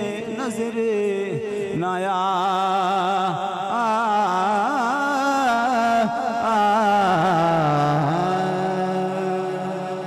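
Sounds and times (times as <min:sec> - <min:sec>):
man singing into a microphone: 0:00.0 - 0:10.0.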